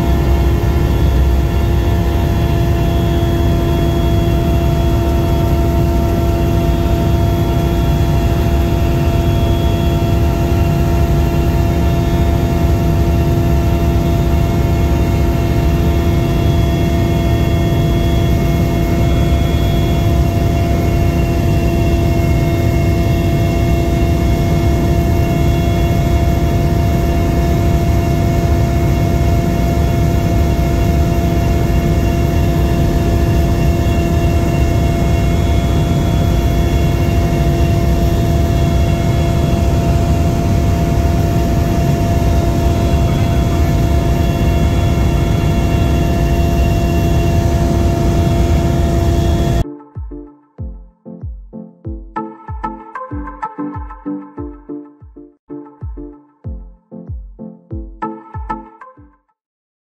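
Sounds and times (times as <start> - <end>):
helicopter engine and rotor drone: 0.0 - 49.7.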